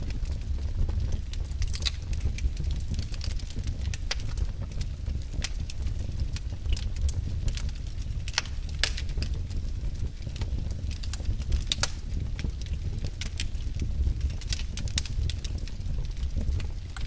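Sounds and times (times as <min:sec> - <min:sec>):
low steady rumble: 0:00.0 - 0:17.0
wood fire crackling and popping: 0:00.0 - 0:17.0.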